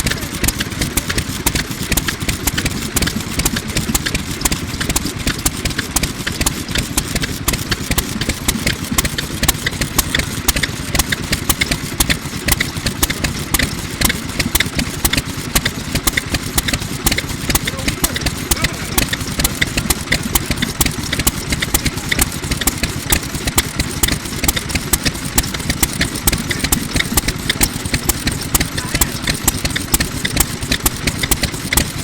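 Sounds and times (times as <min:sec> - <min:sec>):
exhaust popping: 0:00.0 - 0:32.0
oil engine running: 0:00.0 - 0:32.0.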